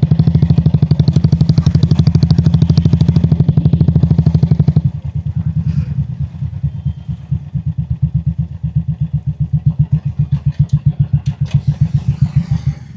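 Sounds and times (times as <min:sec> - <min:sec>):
motorcycle engine running at low revs: 0:00.0 - 0:12.9.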